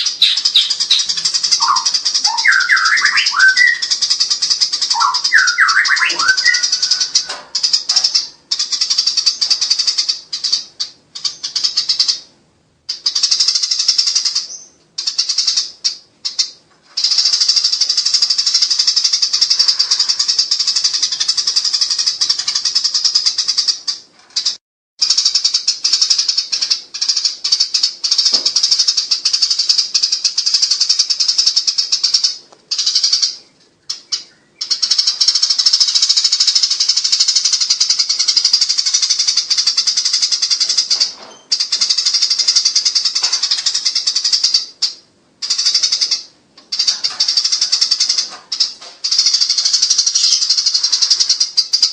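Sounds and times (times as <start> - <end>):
sparrows chattering harshly: 0.0 - 51.9.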